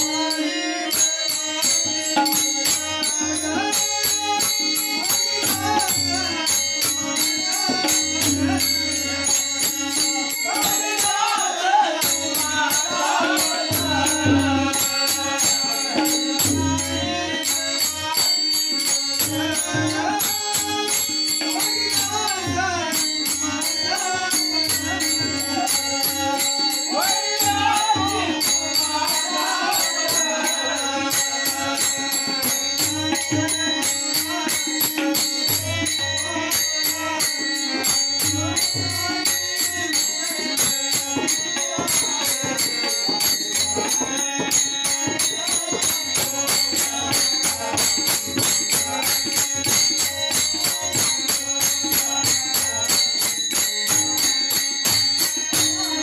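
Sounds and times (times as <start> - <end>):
man singing: 0.0 - 1.5, 2.2 - 37.4, 38.4 - 54.6, 55.4 - 56.0
harmonium: 0.0 - 56.0
metallic jingling on the beat: 0.0 - 56.0
tabla: 0.0 - 56.0.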